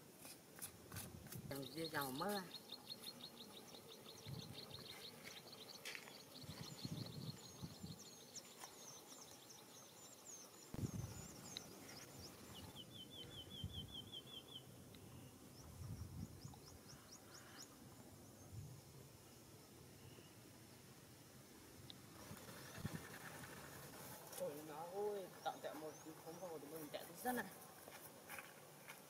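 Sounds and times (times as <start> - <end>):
small birds chirping: 1.4 - 20.5, 21.8 - 29.0.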